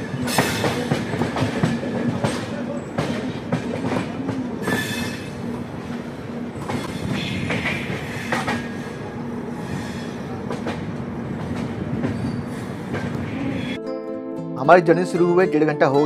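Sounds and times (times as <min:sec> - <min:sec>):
train wheels clacking: 0:00.0 - 0:13.6
train rumbling on track: 0:00.0 - 0:13.8.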